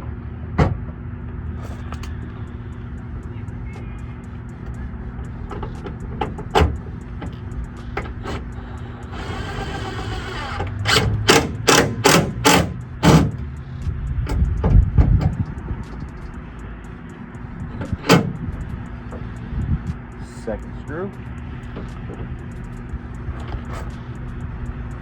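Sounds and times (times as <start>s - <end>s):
steady low hum: 0.0s - 25.0s
scattered clicks: 1.8s - 9.2s, 10.6s - 25.0s.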